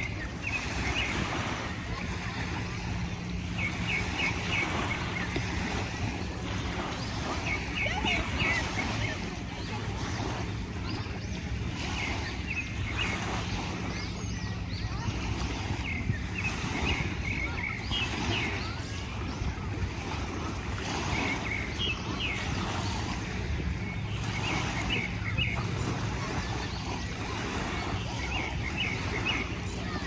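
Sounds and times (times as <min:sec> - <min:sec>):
low hum: 0:00.0 - 0:30.0
surf: 0:00.0 - 0:30.0
wind: 0:00.0 - 0:30.0.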